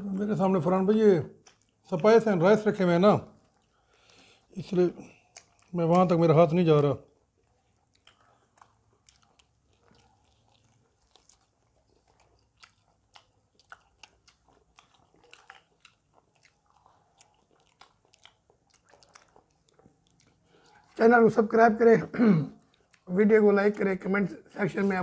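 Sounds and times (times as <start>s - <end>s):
crunching and chewing fried chicken: 0.0s - 25.0s.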